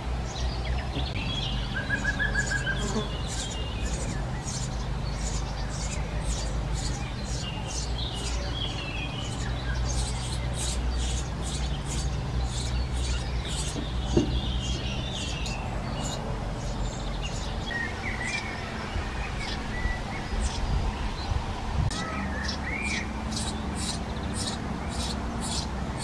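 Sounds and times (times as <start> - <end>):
nestlings begging chirps: 0.0 - 26.0.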